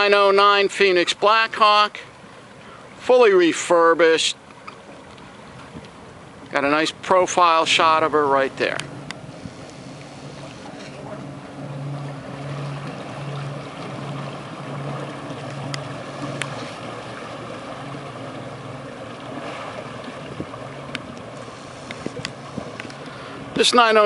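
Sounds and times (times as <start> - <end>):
boat engines idling: 0.0 - 24.0.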